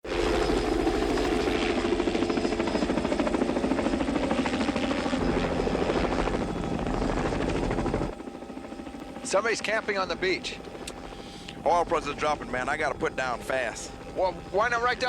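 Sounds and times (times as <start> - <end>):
helicopter engine whine: 0.0 - 15.0
helicopter rotor chopping: 0.1 - 15.0.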